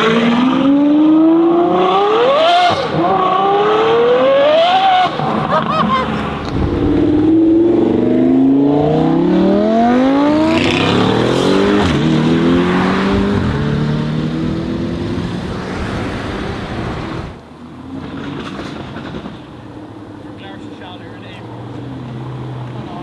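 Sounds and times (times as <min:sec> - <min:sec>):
car engine accelerating hard: 0:00.0 - 0:20.4.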